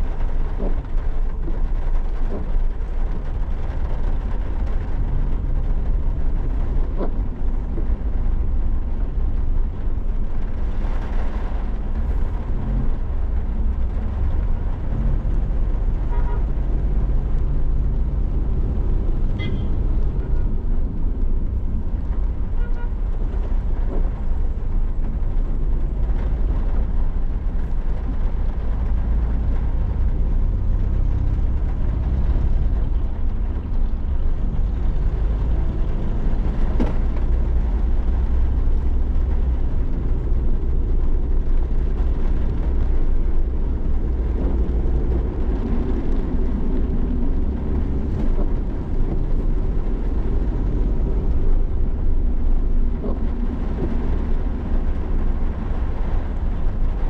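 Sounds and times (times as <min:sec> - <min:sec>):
rain hiss: 0:00.0 - 0:57.0
road and engine rumble: 0:00.0 - 0:57.0.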